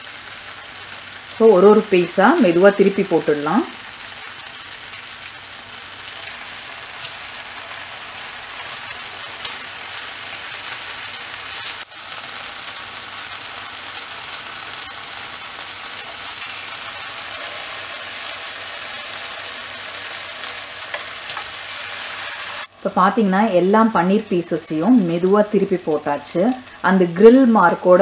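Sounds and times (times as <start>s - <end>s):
paneer sizzling on a grill pan: 0.0s - 22.8s.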